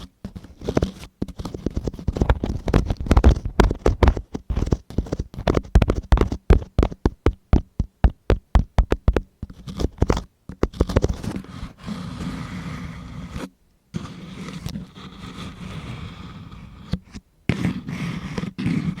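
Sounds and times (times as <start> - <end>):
tool scratching against microphone: 0.0 - 19.0.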